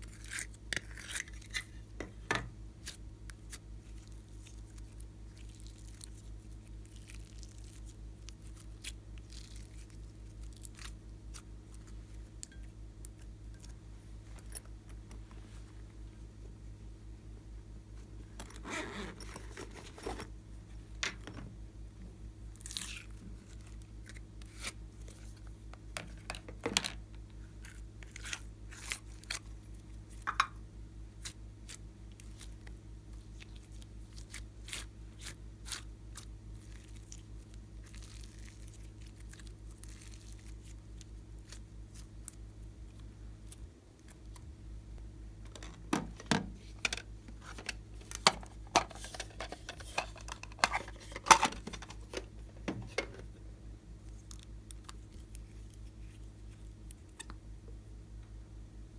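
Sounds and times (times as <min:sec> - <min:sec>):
faint low hum: 0:00.0 - 0:58.9.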